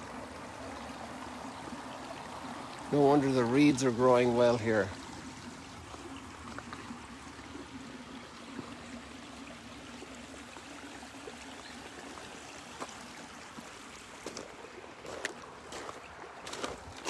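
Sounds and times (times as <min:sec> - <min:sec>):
stream of water trickling: 0:00.0 - 0:17.0.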